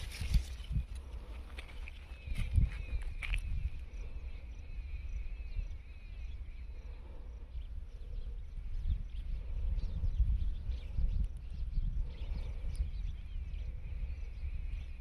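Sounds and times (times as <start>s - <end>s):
bird chirping: 0.0s - 15.0s
wind on microphone: 0.0s - 15.0s.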